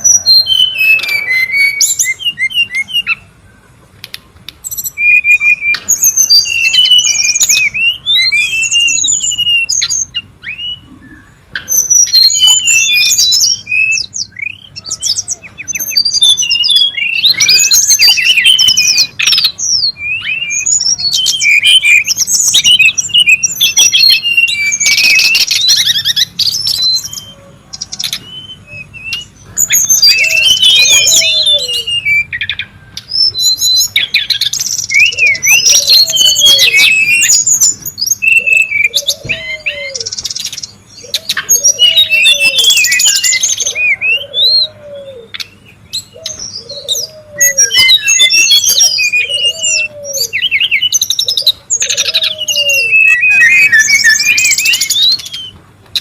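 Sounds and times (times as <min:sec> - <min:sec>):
bird whistles and chattering: 0:00.0 - 0:03.3, 0:04.5 - 0:56.0
low arching call: 0:00.0 - 0:56.0.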